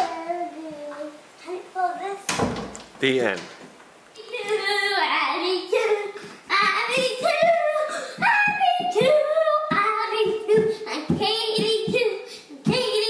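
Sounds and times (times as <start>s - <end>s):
child singing in high voice: 0.0s - 2.3s, 4.2s - 13.0s.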